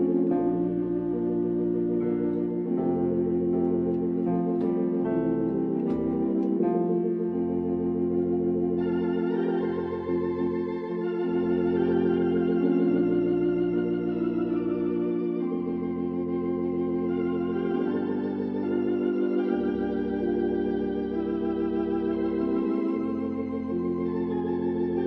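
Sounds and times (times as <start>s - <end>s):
electronic organ playing a hymn: 0.0s - 25.0s.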